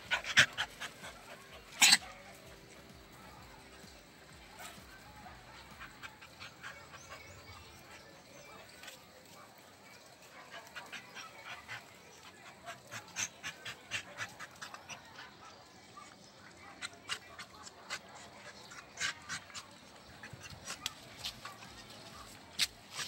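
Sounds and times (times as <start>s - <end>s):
dogs play-fighting breathy scuffles: 0.0s - 16.2s, 16.8s - 23.0s.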